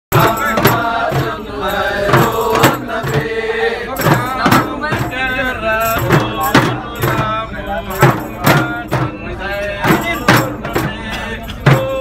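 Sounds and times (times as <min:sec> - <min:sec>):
frame drums beating: 0:00.1 - 0:12.0
men chanting together: 0:00.1 - 0:12.0.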